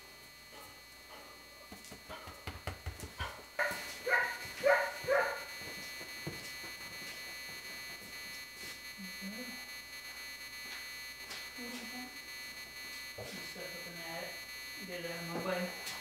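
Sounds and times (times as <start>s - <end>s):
high electronic buzz: 0.0s - 16.0s.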